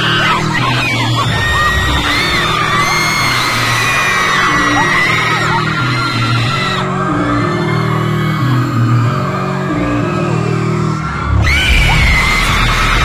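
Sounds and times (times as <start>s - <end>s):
crowd screaming: 0.0s - 13.0s.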